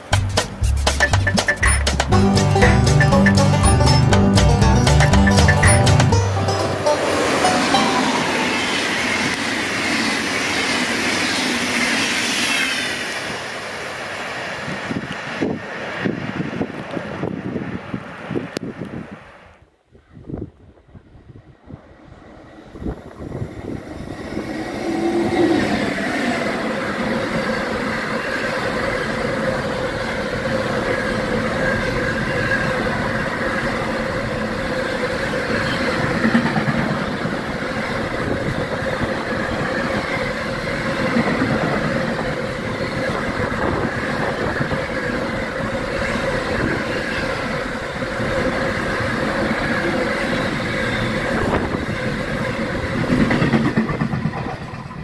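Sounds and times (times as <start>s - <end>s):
train rolling on rails: 0.0s - 19.6s, 20.2s - 55.0s.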